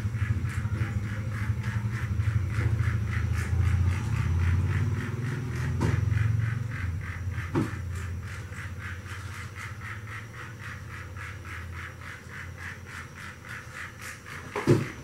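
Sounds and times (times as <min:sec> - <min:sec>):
toy train clicking on track: 0:00.0 - 0:15.0
toy train motor whirring: 0:00.0 - 0:15.0.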